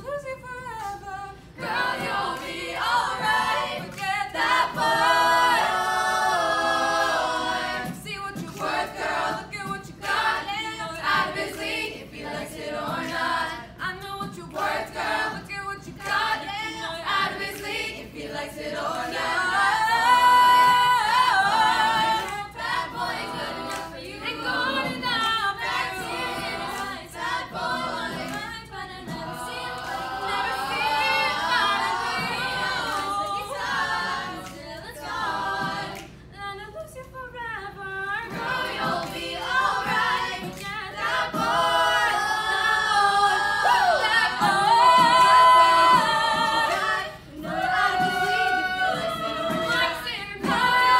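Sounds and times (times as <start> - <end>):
young female voices singing in harmony: 0.0 - 50.9.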